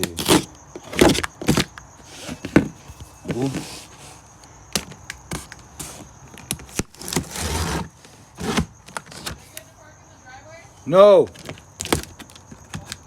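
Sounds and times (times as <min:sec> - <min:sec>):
cardboard rustling and tearing: 0:00.0 - 0:04.2, 0:04.8 - 0:09.5, 0:11.3 - 0:13.0.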